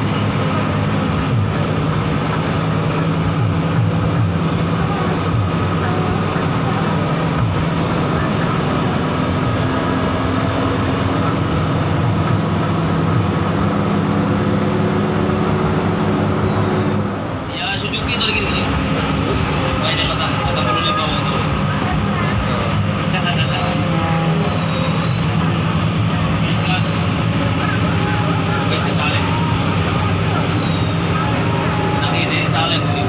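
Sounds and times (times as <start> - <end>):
bus engine and road noise: 0.0 - 33.0.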